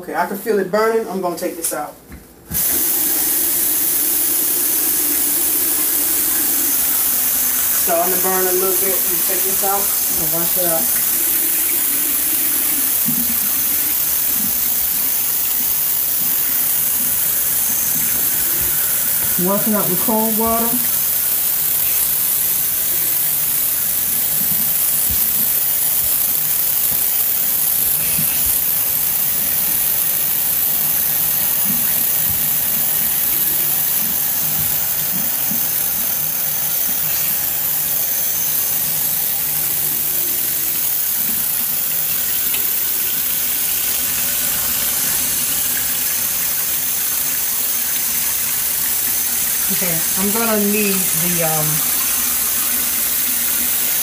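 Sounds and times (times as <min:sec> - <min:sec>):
faucet water running and splashing: 0:02.5 - 0:54.0.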